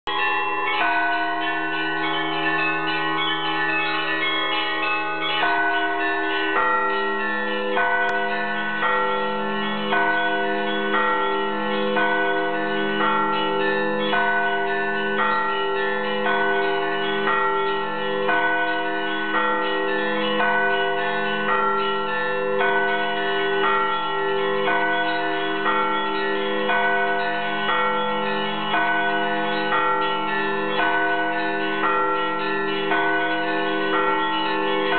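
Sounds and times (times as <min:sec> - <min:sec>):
church bells pealing: 0:00.1 - 0:34.9
deep bell: 0:00.1 - 0:34.9
lower bells sounding: 0:00.1 - 0:34.9
small bells chiming: 0:00.1 - 0:34.9.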